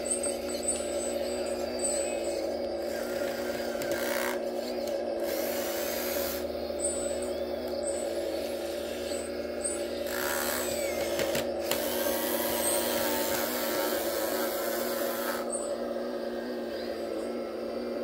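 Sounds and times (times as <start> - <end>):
model excavator motor and pump whine: 0.0 - 18.0.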